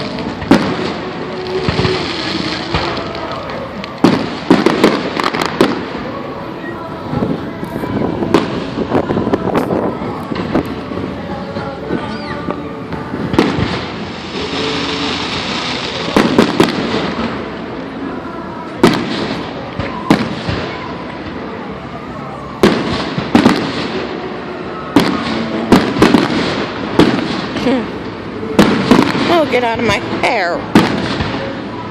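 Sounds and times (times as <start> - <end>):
faint background voices: 0.0 - 31.9
fireworks bangs: 0.0 - 31.9
fireworks crackling hiss: 0.0 - 31.9.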